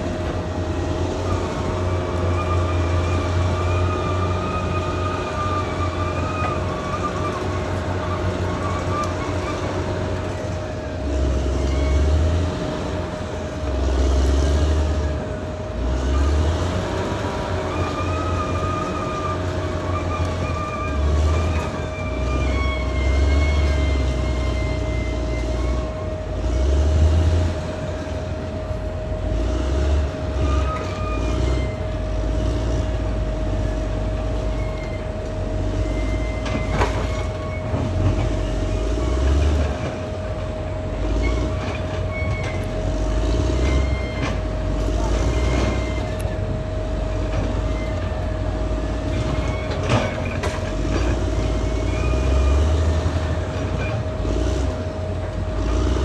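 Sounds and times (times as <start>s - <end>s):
bulldozer diesel engine rumble: 0.0s - 56.0s
crawler tracks squeaking and clanking: 0.0s - 56.0s.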